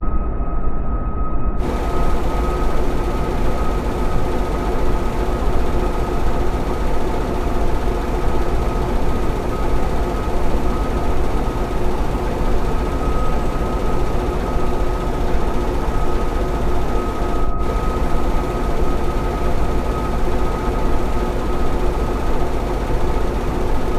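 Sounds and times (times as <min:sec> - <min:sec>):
humming tones: 0:01.6 - 0:22.0
deep mechanical rumble: 0:01.6 - 0:23.9.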